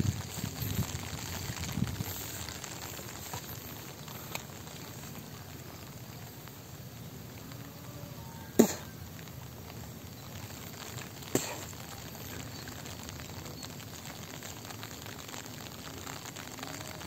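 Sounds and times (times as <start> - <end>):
light drizzle pattering: 0.0 - 17.0.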